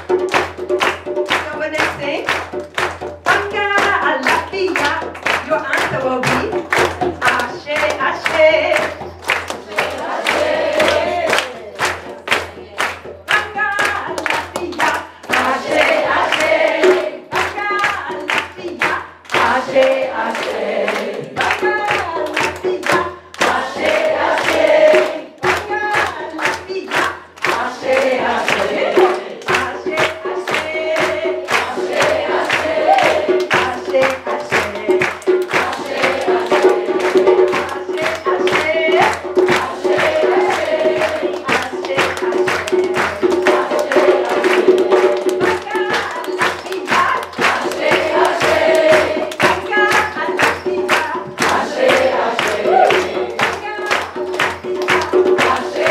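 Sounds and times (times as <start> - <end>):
people clapping on the beat: 0.0 - 55.9
group singing with musicians: 3.2 - 55.9.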